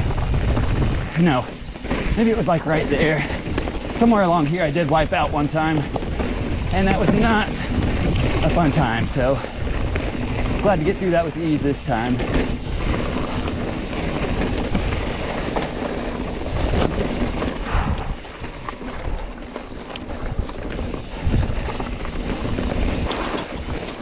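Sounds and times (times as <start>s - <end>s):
bike rattling and knocking: 0.0s - 24.0s
bike tyre noise: 0.0s - 24.0s
wind buffeting microphone: 0.0s - 24.0s.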